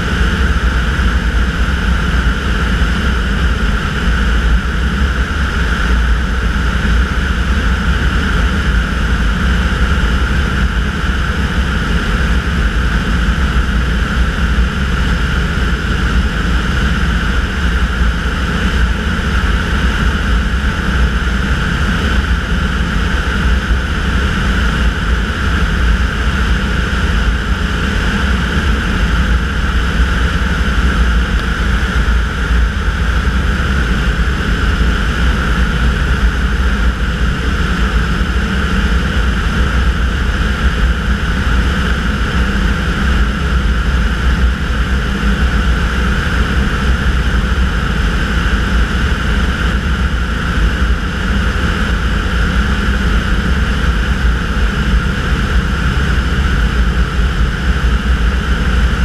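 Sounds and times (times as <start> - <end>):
engine and propeller drone: 0.0 - 59.0.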